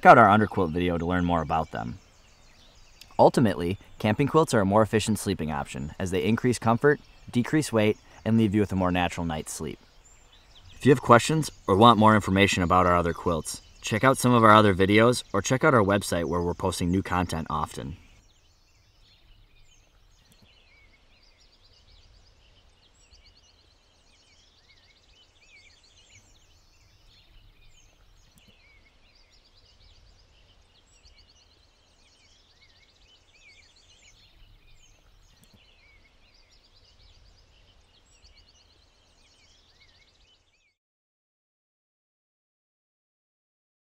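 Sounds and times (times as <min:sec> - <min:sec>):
songbirds chirping: 0:00.0 - 0:40.8.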